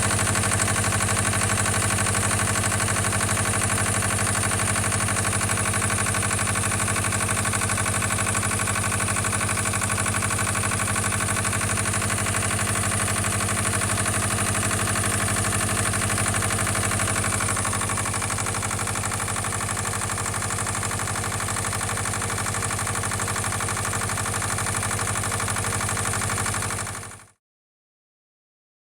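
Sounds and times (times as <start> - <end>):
diesel engine idling: 0.0 - 23.6.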